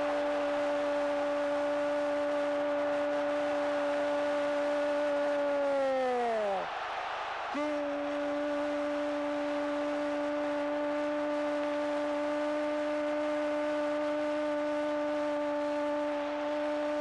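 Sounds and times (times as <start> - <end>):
crowd noise: 0.0 - 17.0.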